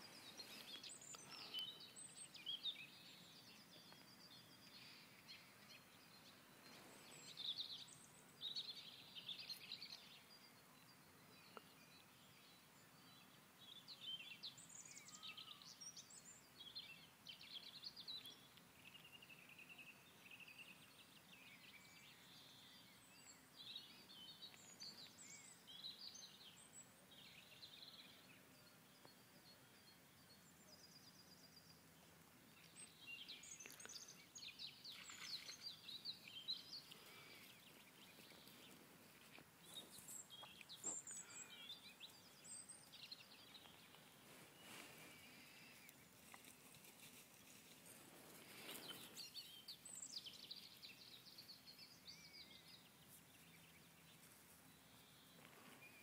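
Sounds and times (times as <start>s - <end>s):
faint birds chirping: 0.0s - 56.0s.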